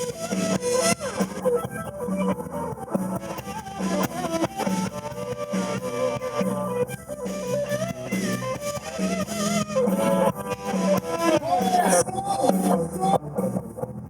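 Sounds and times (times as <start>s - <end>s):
bass line: 0.0s - 14.0s
drums: 0.0s - 14.0s
electric guitar lead with bent notes: 0.0s - 14.0s.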